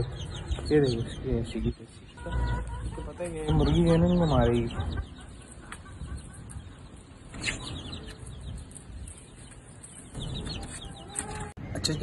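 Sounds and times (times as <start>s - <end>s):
chick chirp: 0.0s - 12.0s.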